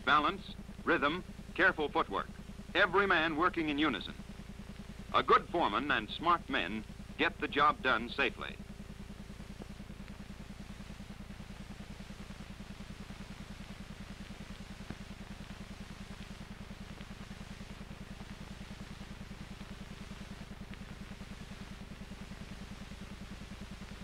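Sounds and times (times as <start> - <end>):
faint steady tone: 0.0 - 24.0
pulsing low machine hum: 0.0 - 24.0.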